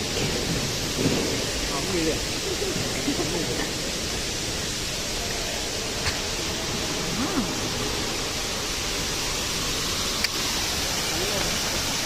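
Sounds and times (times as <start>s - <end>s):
water falling in water feature: 0.0s - 12.0s.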